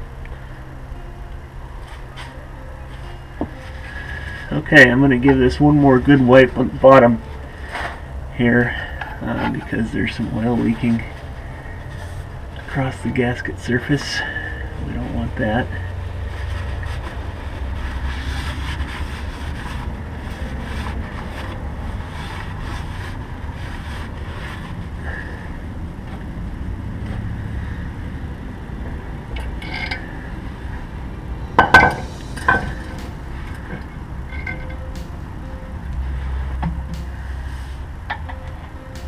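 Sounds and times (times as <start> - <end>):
low rumble: 0.0 - 39.0.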